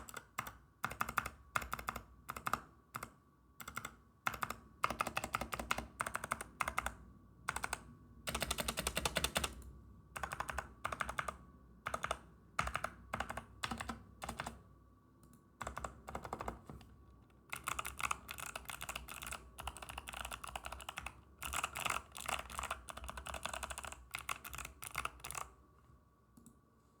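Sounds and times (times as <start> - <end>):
typing on mechanical keyboard: 0.0 - 14.6, 15.6 - 25.5.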